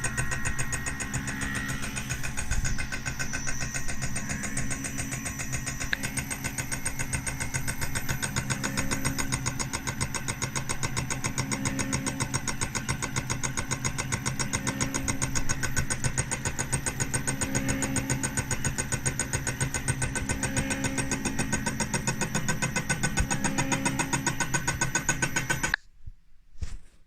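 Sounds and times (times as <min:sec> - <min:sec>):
motor-driven machine pulsing: 0:00.0 - 0:25.8.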